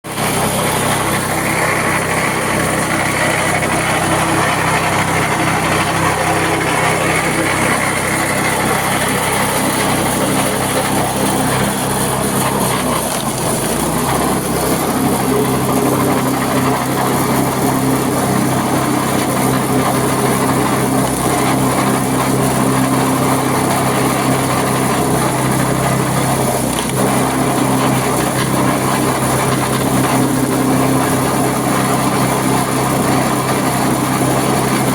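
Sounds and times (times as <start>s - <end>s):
wood chipper engine running: 0.0s - 34.9s.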